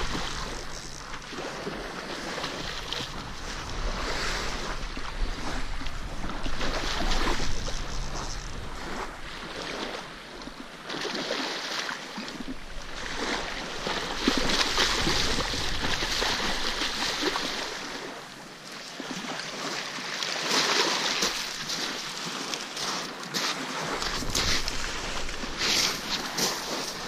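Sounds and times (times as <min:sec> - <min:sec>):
small waves on pebble shore: 0:00.0 - 0:27.0.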